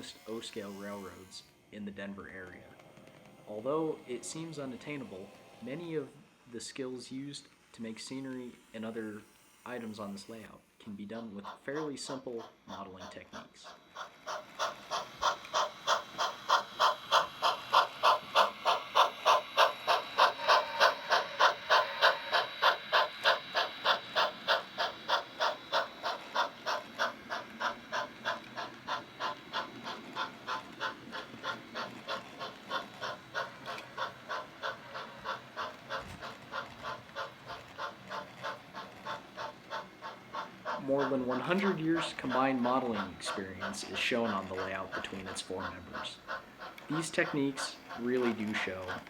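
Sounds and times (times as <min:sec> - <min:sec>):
steam locomotive chuffing: 0:00.0 - 0:01.5, 0:02.2 - 0:49.0.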